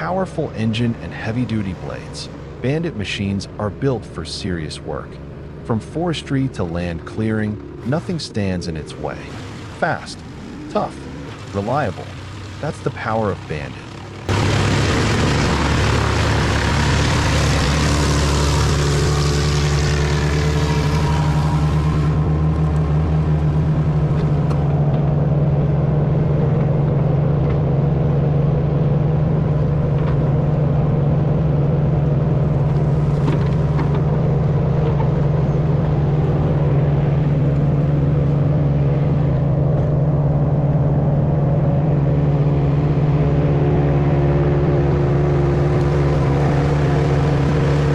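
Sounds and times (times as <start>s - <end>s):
wood chipper engine droning: 6.5s - 47.9s.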